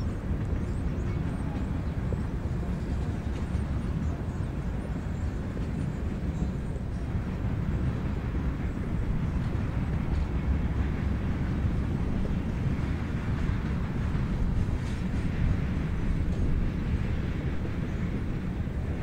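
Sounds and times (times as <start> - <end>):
distant freight train rumbling: 0.0 - 19.0.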